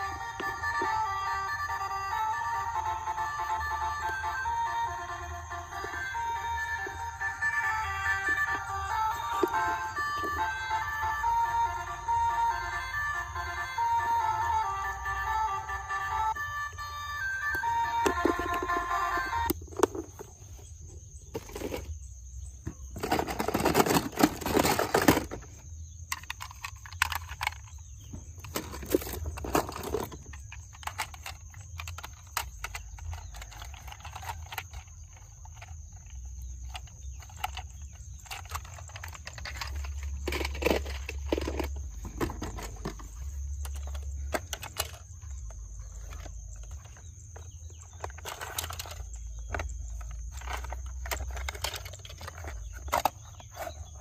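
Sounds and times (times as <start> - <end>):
plastic toy cars clattering: 0.0 - 1.4, 5.4 - 11.2, 17.5 - 54.0.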